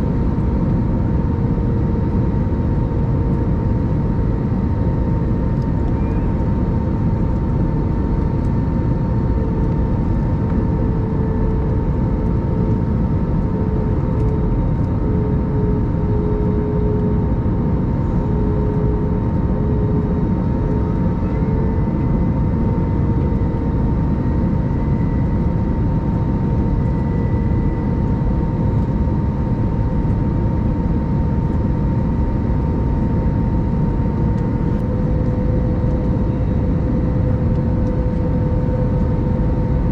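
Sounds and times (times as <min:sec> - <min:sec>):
low drone of engines and air: 0:00.0 - 0:39.9.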